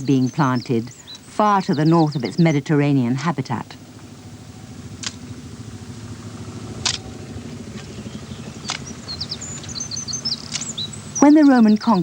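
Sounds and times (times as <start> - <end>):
birds chirping: 0.0 - 12.0
engine low rumble: 0.0 - 12.0.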